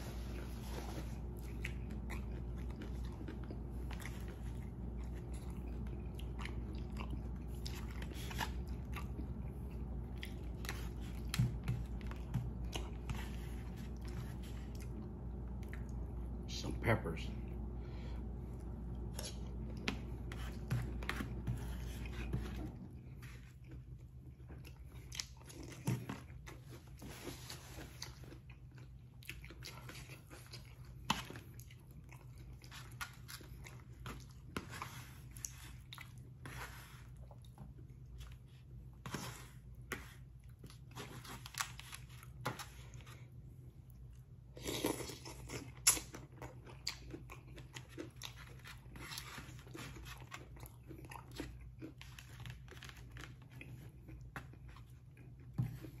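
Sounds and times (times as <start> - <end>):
person chewing: 0.0 - 16.4, 17.5 - 56.0
steady low hum: 0.0 - 56.0.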